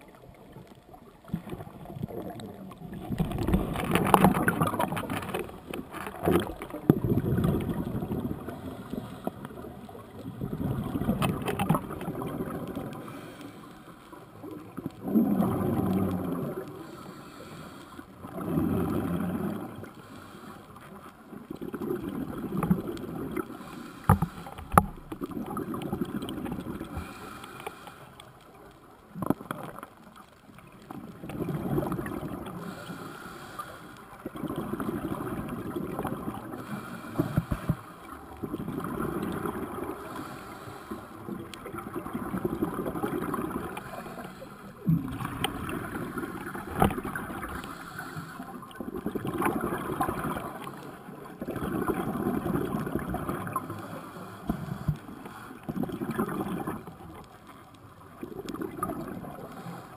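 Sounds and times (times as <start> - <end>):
underwater bubbles gurgling: 0.0 - 59.9.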